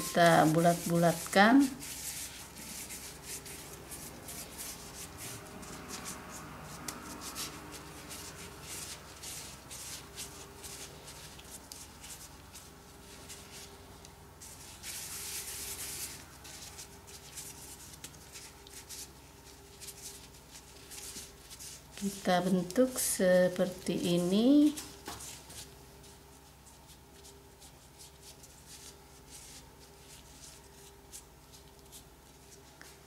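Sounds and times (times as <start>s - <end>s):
plastic gloves rustling: 0.0s - 33.0s.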